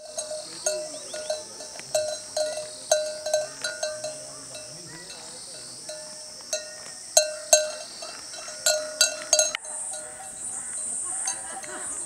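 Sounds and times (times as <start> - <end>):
small metal bells clanking: 0.0 - 12.0.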